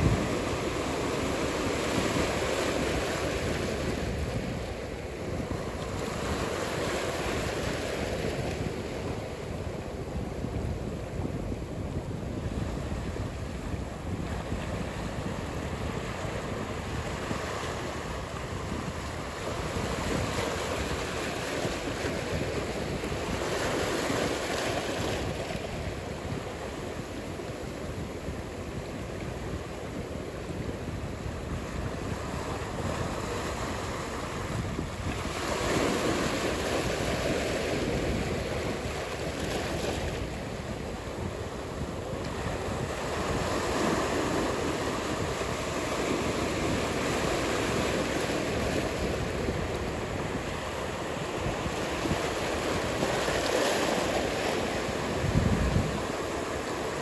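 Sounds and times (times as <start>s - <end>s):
waves breaking: 0.0s - 57.0s
wind: 0.0s - 57.0s.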